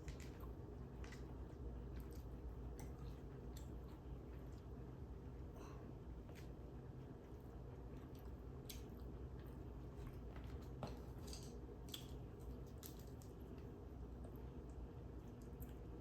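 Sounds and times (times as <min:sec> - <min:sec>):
low steady hum: 0:00.0 - 0:16.0
person chewing wetly: 0:00.0 - 0:16.0.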